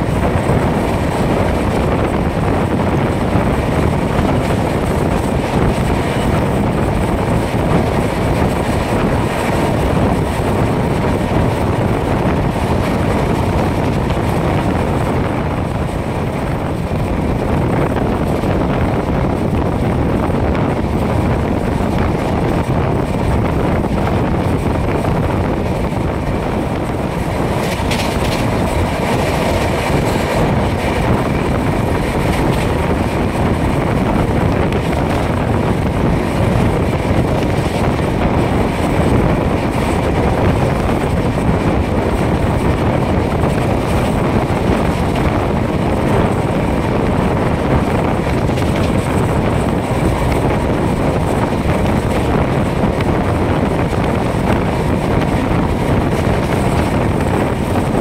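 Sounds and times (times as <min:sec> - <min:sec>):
train wheels rumbling on rails: 0:00.0 - 0:58.0
wind on microphone: 0:00.0 - 0:58.0.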